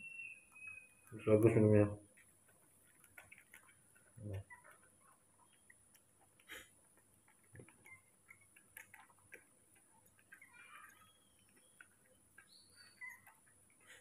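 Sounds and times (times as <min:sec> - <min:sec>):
baby monkey suckling bottle: 0:00.1 - 0:14.0.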